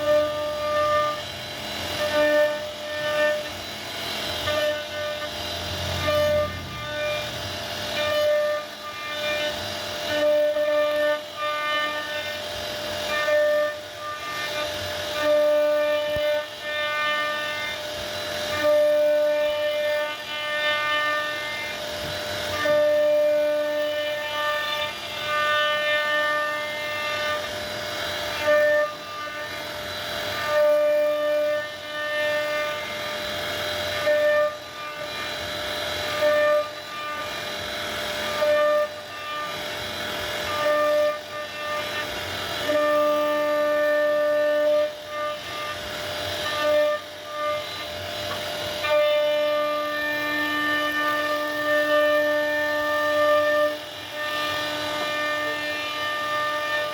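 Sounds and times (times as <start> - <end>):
cnc router spindle whining: 0.0 - 56.9
router bit cutting wood: 0.0 - 56.9.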